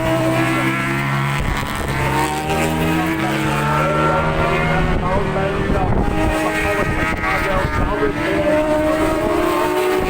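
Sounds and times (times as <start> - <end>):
racing motorcycles passing: 0.0 - 10.0.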